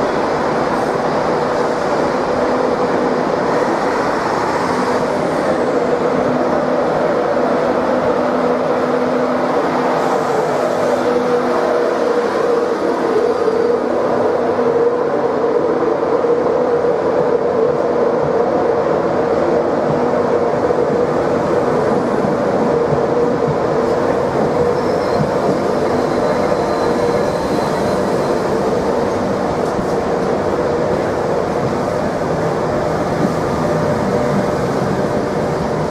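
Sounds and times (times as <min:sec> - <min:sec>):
train rumbling: 0:00.0 - 0:35.9.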